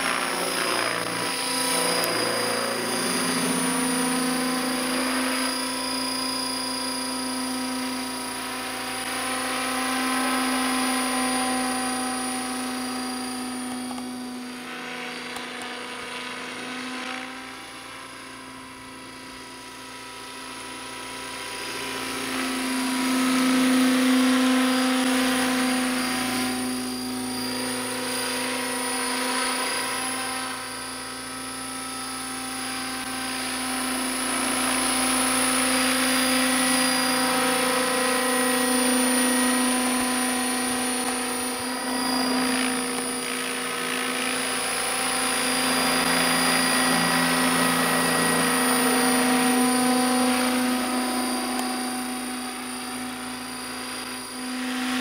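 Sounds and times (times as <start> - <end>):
model helicopter whine: 0.0 - 55.0
rotor buzz: 0.0 - 55.0.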